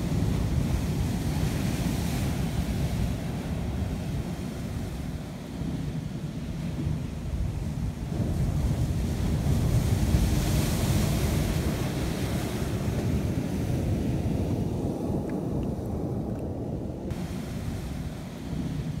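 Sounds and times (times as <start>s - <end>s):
surf washing over rocky shore: 0.0s - 19.0s
wind buffeting microphone: 0.0s - 19.0s.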